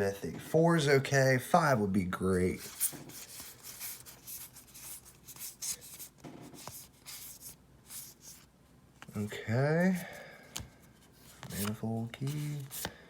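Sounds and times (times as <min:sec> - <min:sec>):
wrapper and cards rustling: 0:02.5 - 0:13.0.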